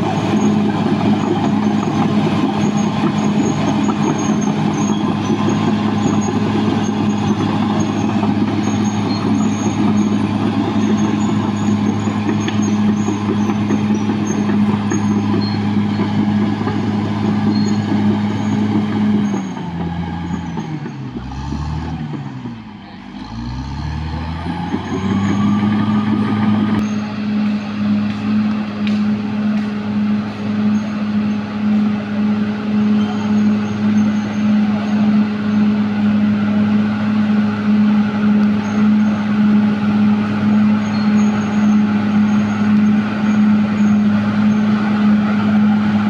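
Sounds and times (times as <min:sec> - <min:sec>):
bulldozer diesel engine revving: 0:00.0 - 0:46.0.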